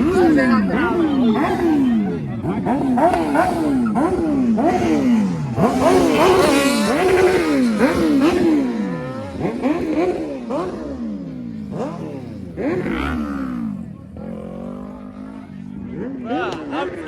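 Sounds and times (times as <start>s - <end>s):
vehicle engines revving: 0.0s - 17.0s.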